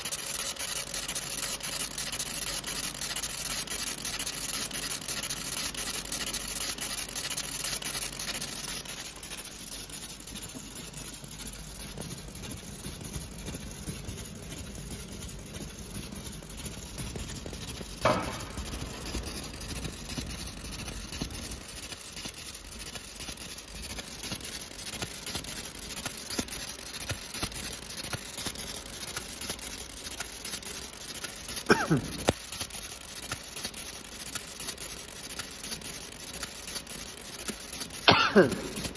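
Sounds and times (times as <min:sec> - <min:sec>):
laser cutting crackling hiss: 0:00.0 - 0:38.9.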